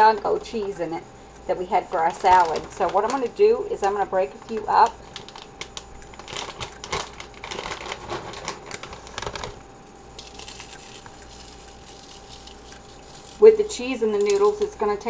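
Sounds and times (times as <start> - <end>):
croutons crackling and snapping: 1.8 - 14.8.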